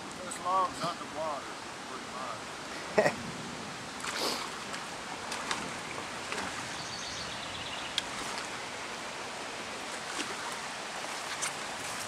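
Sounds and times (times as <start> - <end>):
running floodwater in a creek: 0.0 - 12.0.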